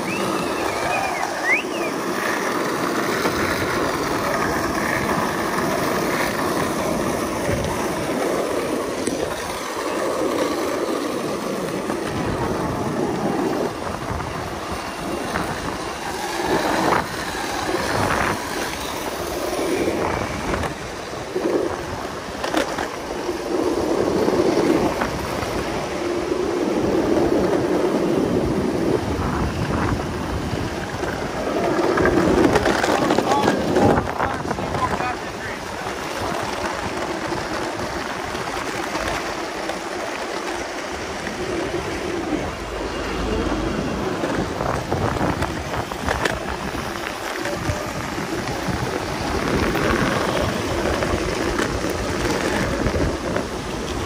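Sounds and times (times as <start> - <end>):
wind on microphone: 0.0 - 22.6, 23.3 - 54.0
skateboard wheels rolling on pavement: 0.0 - 54.0.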